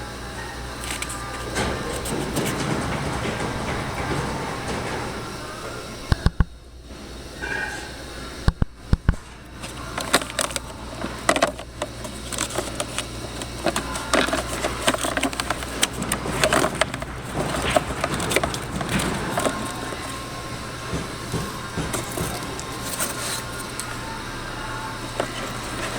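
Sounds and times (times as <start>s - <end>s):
hands clicking and tapping plastic: 0.8s - 5.3s, 8.5s - 24.2s, 24.9s - 25.9s.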